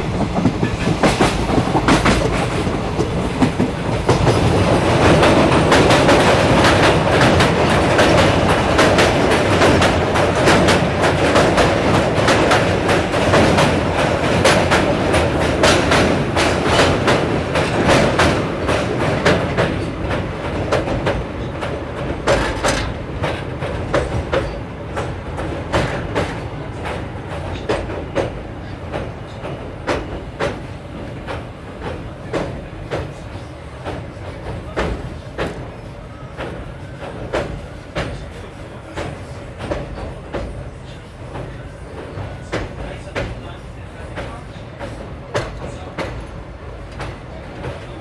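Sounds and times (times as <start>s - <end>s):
train rumble: 0.0s - 48.0s
train wheels clicking over joints: 0.0s - 48.0s.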